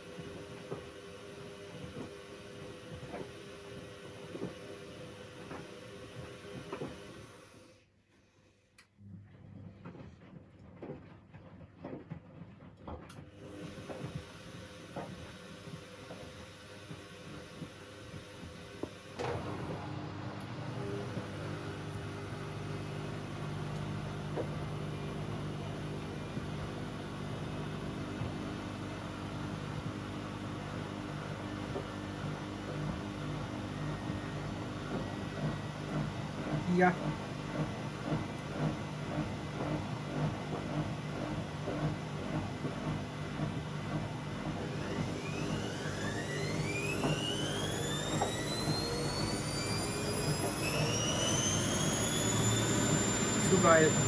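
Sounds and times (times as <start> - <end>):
washing machine motor hum: 0.0 - 7.6, 9.2 - 54.0.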